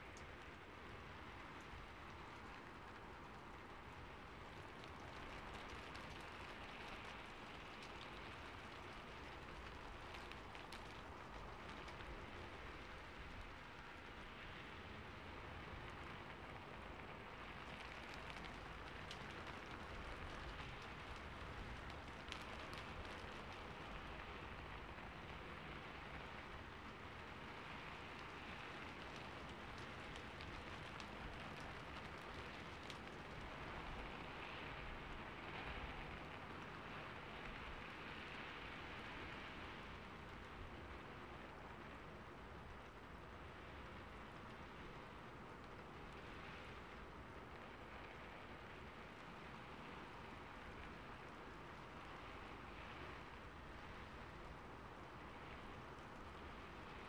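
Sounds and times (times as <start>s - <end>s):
rain on a rooftop: 0.0s - 57.0s.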